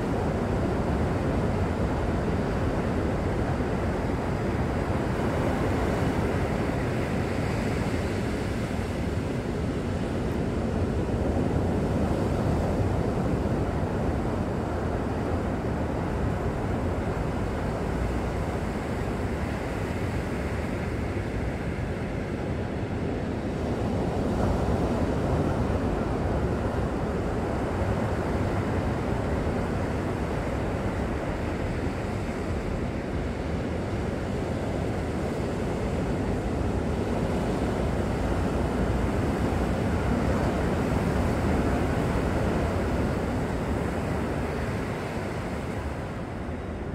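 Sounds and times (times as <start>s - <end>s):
ocean surf: 0.0s - 46.9s
wind: 0.0s - 46.9s.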